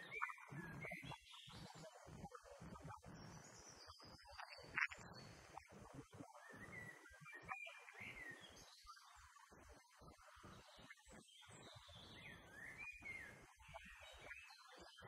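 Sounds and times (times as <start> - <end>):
faint birdsong chirps and whistles: 0.0 - 15.0.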